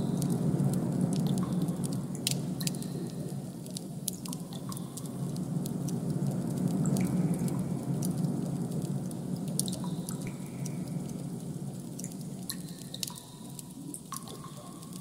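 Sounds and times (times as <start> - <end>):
low rumbling noise: 0.0 - 15.0
small clicks and crackles: 0.0 - 15.0.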